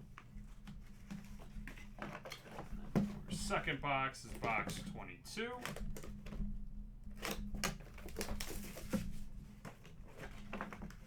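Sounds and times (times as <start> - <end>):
packaging clicks crinkles and rustles: 0.1 - 11.0.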